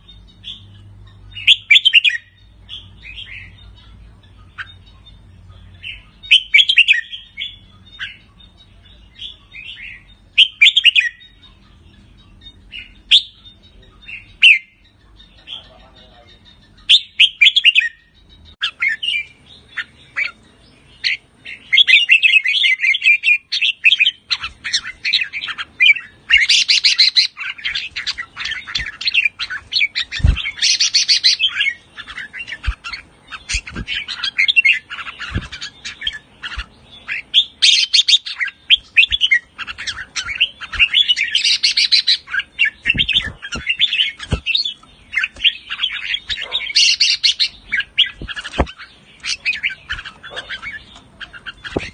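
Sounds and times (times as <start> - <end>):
bird singing and chattering: 0.0 - 51.9.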